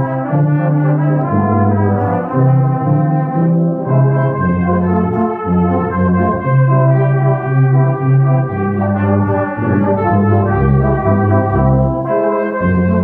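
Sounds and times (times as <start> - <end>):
brass band playing slow chords: 0.0 - 13.0.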